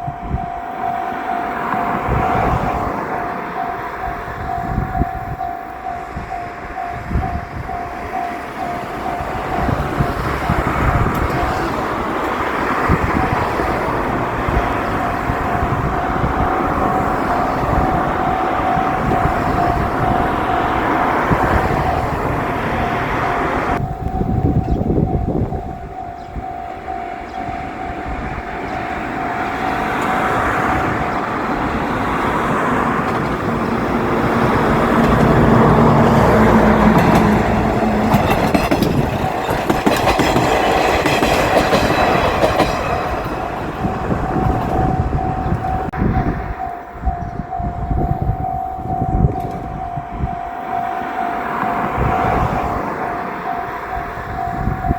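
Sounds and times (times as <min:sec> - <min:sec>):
diesel train rumble: 0:00.0 - 0:54.9
level crossing warning bell: 0:00.0 - 0:54.9
wheels clicking over rail joints: 0:00.8 - 0:46.3.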